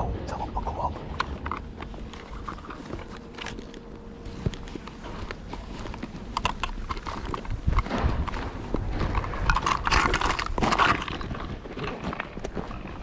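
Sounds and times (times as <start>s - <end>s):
faint steady hum: 0.0s - 13.0s
footsteps on rough ground: 0.0s - 13.0s.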